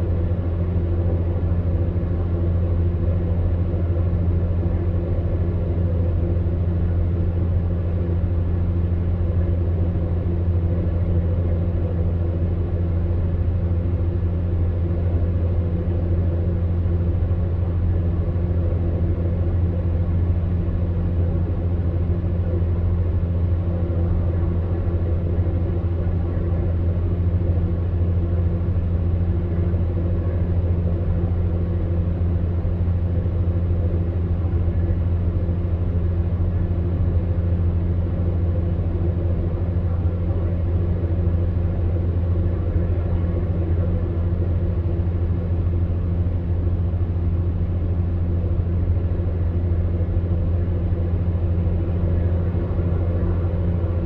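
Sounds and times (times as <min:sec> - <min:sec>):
electric fan heater humming: 0:00.0 - 0:54.0.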